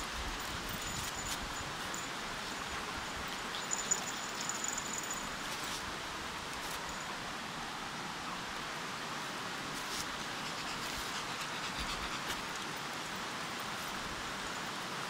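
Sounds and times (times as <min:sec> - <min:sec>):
river running over gravel: 0:00.0 - 0:15.0.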